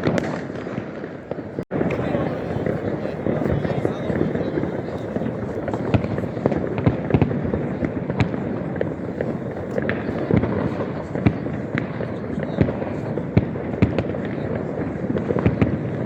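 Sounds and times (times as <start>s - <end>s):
firecracker bangs: 0.0s - 16.0s
fireworks crackling and rumbling: 0.0s - 16.0s.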